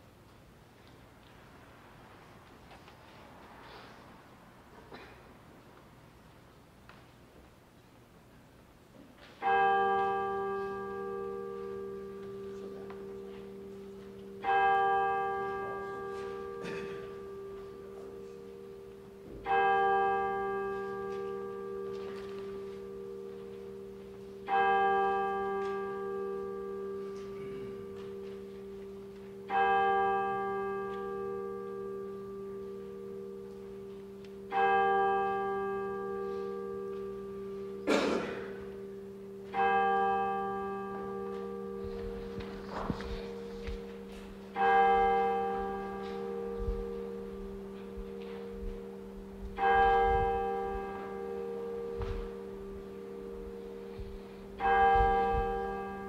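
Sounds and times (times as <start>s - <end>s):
church bell tolling: 9.3s - 56.0s.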